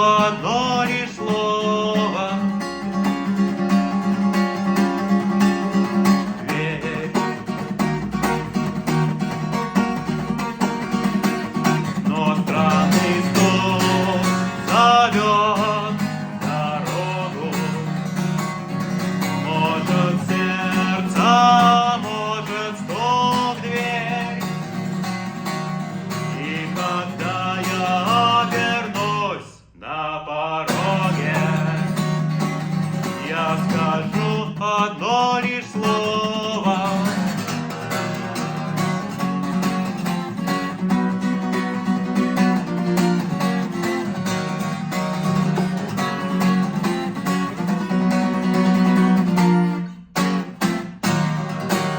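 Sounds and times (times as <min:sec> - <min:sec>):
acoustic guitar strumming chords: 0:00.0 - 0:51.9.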